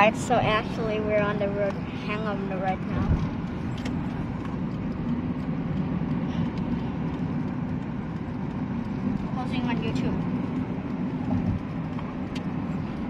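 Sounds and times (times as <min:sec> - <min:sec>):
car tyres on wet road: 0:00.0 - 0:13.0.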